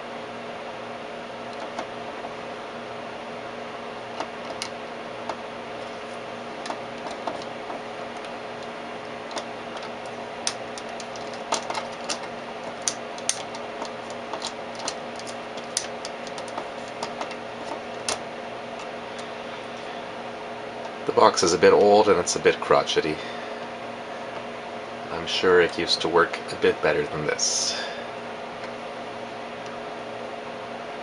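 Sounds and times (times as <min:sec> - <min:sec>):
oscilloscope hum: 0:00.0 - 0:31.0.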